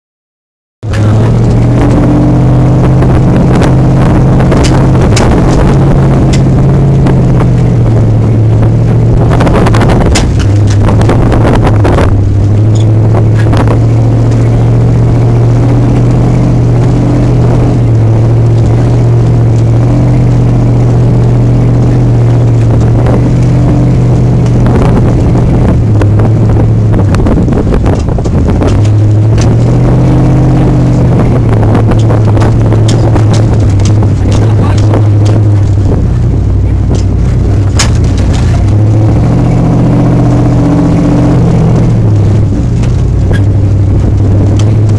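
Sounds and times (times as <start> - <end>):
vehicle clattering: 0.8 - 44.9
vehicle engine running: 0.8 - 44.9.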